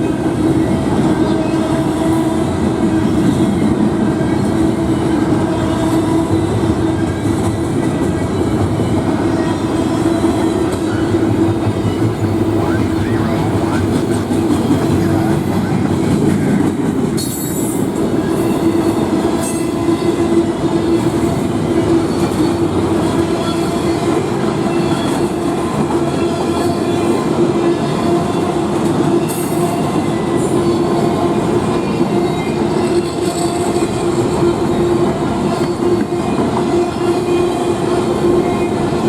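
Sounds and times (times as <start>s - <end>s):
train wheels rumbling on rail: 0.0s - 39.0s
train wheels whining: 0.0s - 39.0s.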